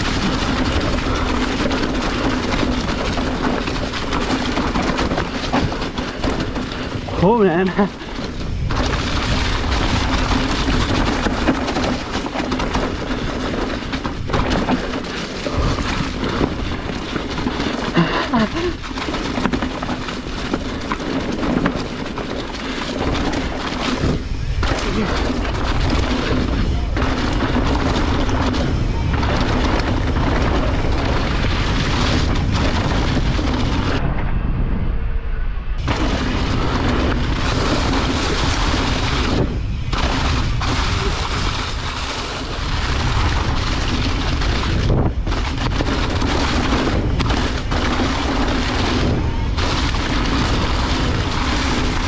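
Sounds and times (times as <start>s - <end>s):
bike tyres rumbling on dirt and rocks: 0.0s - 35.0s, 35.8s - 52.0s
wind rushing over microphone: 0.0s - 52.0s.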